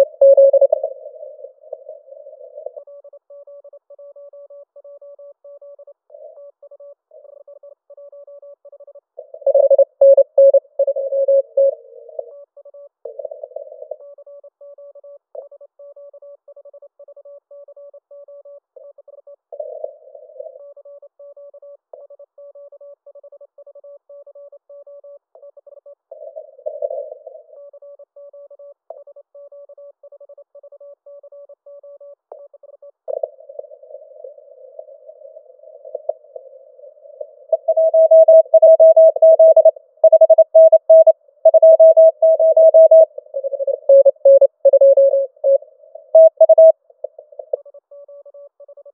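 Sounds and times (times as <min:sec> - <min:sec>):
morse code beeps on radio: 0:00.0 - 0:48.9.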